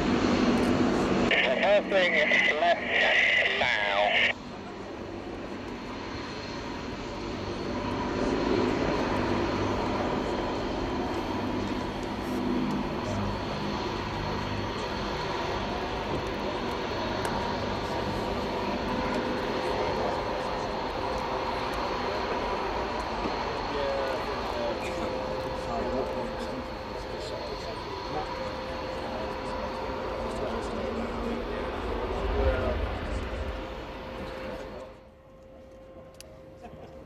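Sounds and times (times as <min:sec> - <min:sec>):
propeller planes droning past: 0:00.0 - 0:37.0.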